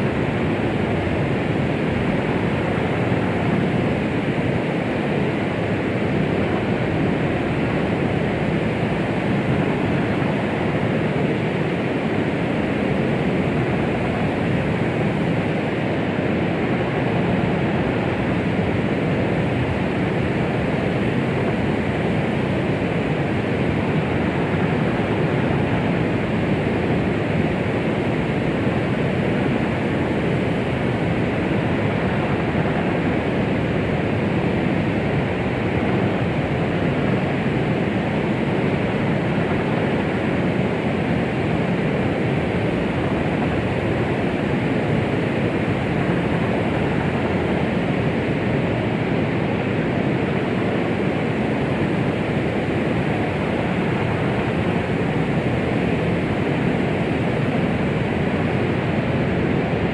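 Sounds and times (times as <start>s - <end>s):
steady white noise: 0.0s - 59.9s.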